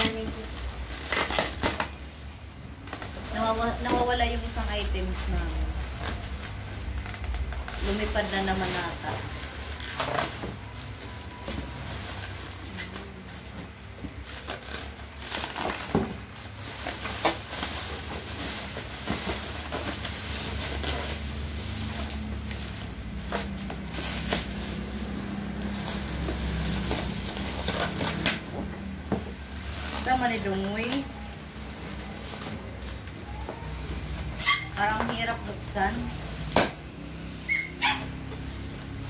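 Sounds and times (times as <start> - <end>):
plastic packaging crinkling: 0.0 - 39.0.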